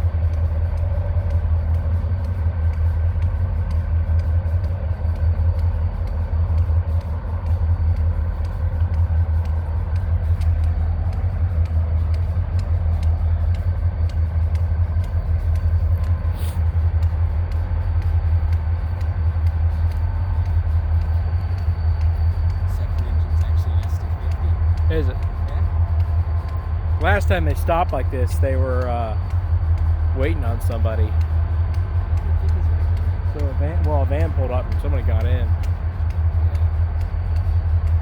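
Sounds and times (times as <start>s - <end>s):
engine idling with low hum: 0.0s - 38.0s.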